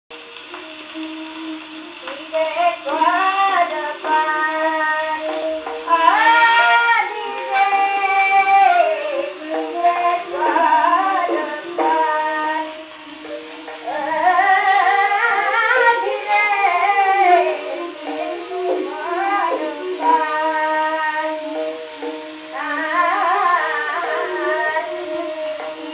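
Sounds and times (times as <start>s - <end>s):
held instrumental notes: 0.1s - 25.9s
woman singing on old record: 0.2s - 25.9s.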